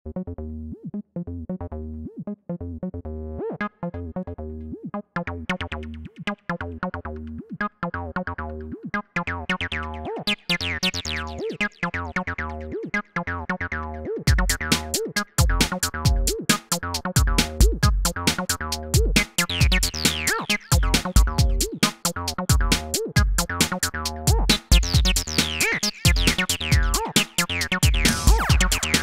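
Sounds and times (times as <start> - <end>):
acid synthesizer bassline: 0.1 - 29.0.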